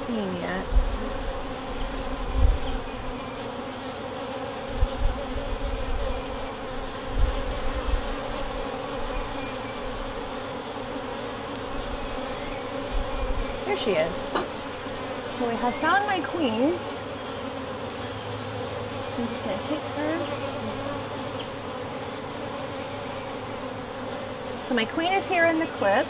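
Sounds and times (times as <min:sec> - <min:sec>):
honeybees buzzing: 0:00.0 - 0:26.0.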